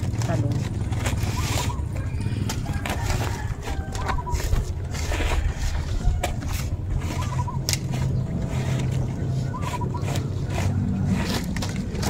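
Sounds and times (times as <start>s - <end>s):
low engine hum: 0.0s - 12.0s
palm leaves crackling: 0.0s - 12.0s.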